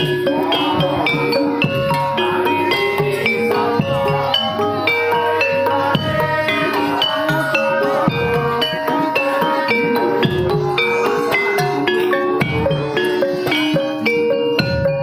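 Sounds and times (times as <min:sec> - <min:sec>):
metallophones ringing melody: 0:00.0 - 0:15.0
steady drum beats: 0:00.0 - 0:15.0.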